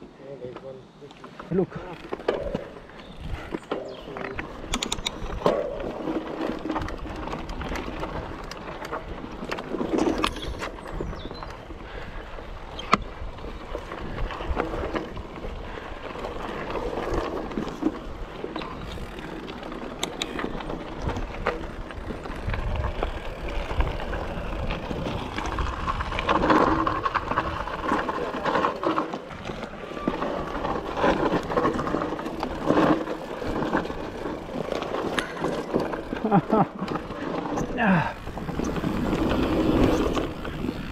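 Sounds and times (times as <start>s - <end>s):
bike clicking and rattling: 0.4s - 40.9s
bike tyres rumbling on dirt: 1.2s - 40.9s.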